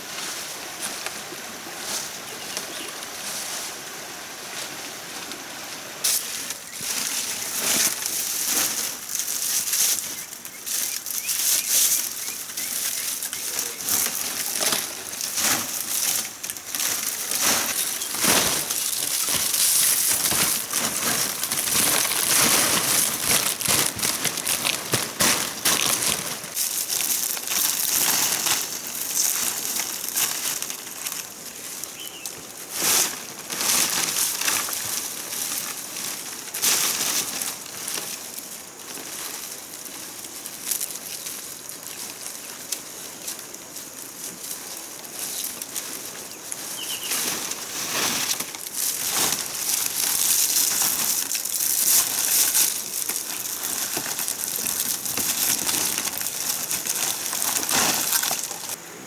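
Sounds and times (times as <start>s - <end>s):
rustling and crackling: 0.0s - 58.8s
steady high hiss: 0.0s - 59.0s.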